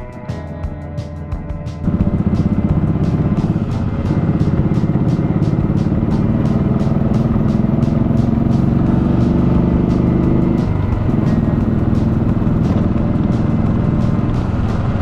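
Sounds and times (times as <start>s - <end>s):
motorcycle engine running: 0.0s - 15.0s
music beat: 0.0s - 15.0s.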